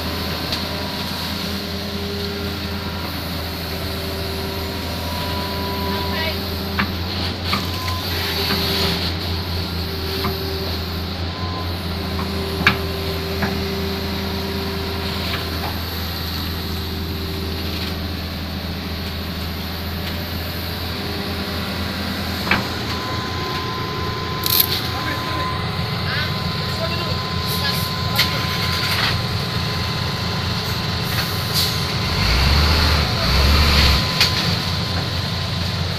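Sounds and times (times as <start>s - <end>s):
diesel engines humming: 0.0s - 35.9s.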